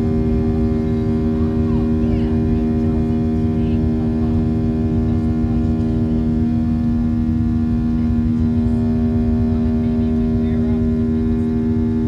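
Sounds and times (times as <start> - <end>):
airliner cabin rumble: 0.0 - 12.0
constant multi-tone hum: 0.0 - 12.0.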